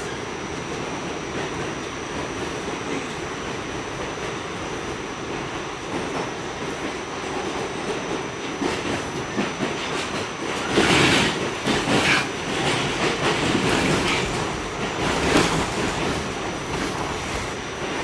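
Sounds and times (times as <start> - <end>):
subway wheels rumbling on rail: 0.0 - 18.0.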